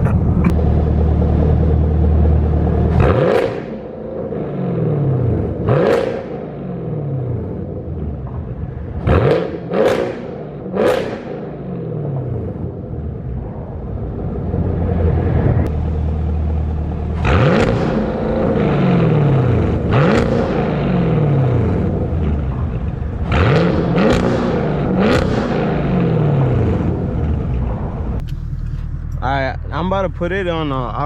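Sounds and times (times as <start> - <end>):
car engine idling: 0.0 - 9.4, 11.4 - 31.0
car engine revving: 0.0 - 31.0.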